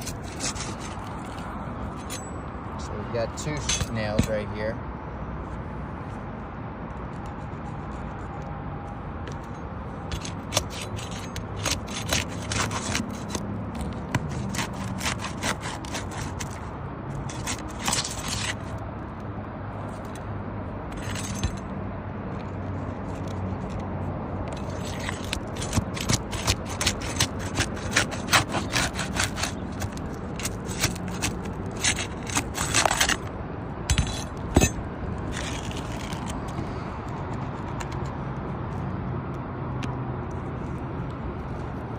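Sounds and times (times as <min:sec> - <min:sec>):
scraping and prying at shingles: 0:00.0 - 0:04.8, 0:07.1 - 0:18.8, 0:19.8 - 0:38.9.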